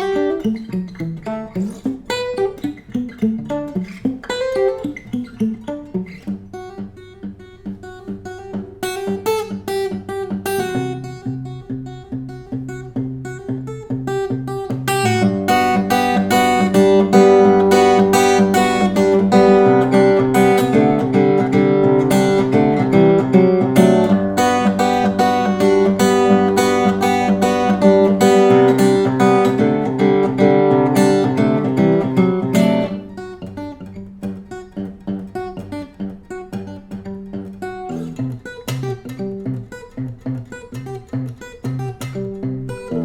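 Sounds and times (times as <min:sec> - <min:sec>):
acoustic guitar picking and strumming: 0:00.0 - 0:43.0.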